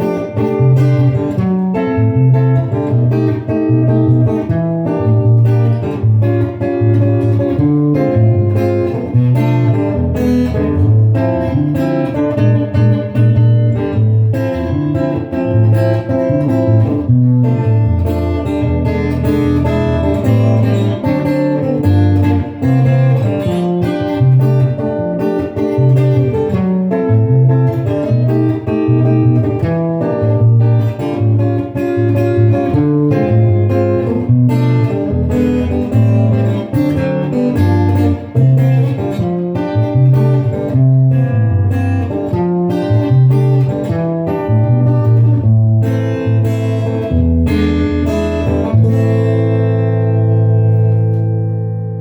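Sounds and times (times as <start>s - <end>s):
guitar plucked and strummed: 0.0s - 52.0s.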